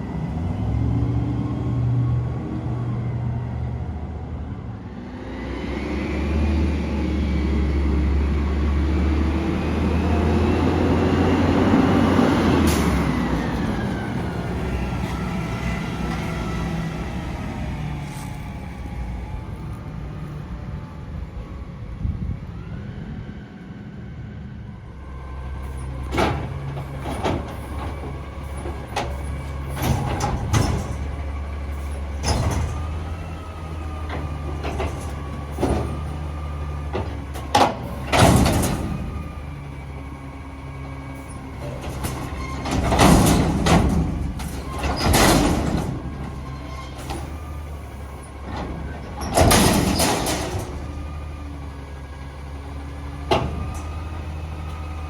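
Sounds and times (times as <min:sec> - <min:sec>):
garbage truck engine running: 0:06.2 - 0:22.7, 0:24.8 - 0:55.0.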